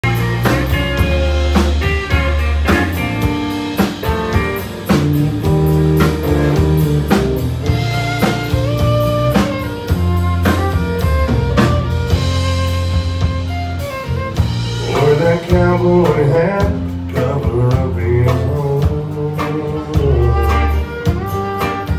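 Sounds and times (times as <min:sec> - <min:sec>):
fiddle: 0:00.0 - 0:21.9
guitars: 0:00.0 - 0:21.9
low bass notes: 0:00.0 - 0:21.9
steady drum beat: 0:00.0 - 0:21.9.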